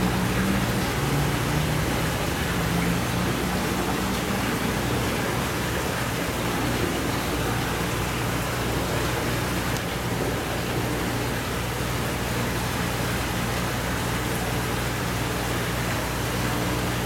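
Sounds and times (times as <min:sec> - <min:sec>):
running water in fish tank: 0:00.0 - 0:17.0.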